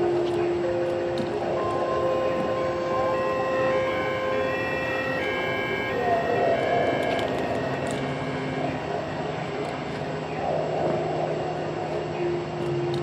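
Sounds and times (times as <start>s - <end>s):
faint sustained tones: 0.0s - 13.0s
road traffic rushing: 0.8s - 11.8s.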